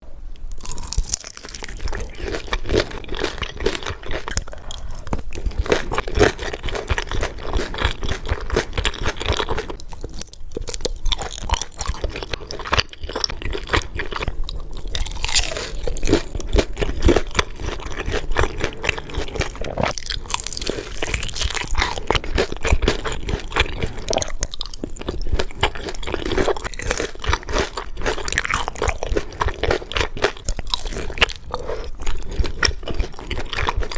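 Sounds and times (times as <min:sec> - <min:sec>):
crunchy food being chewed: 0:00.5 - 0:33.9.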